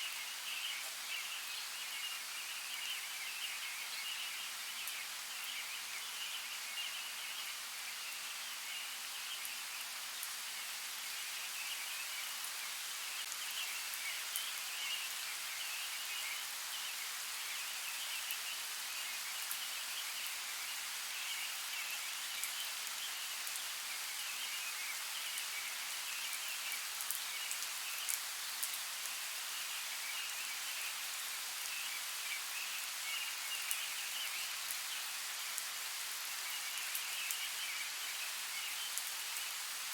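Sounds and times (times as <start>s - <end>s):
light rain hiss: 0.0s - 39.9s.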